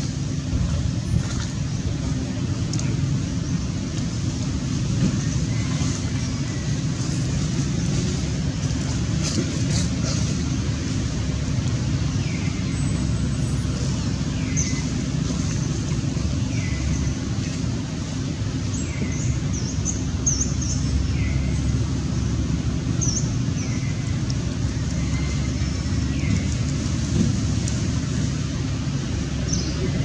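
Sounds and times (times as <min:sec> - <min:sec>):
low outdoor rumble: 0:00.0 - 0:30.0
small birds chirping: 0:05.0 - 0:30.0.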